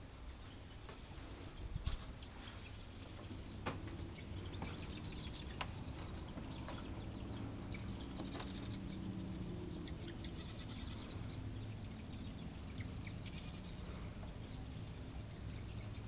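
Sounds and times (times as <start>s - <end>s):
low steady hum: 0.0s - 16.0s
birds trilling: 0.3s - 16.0s.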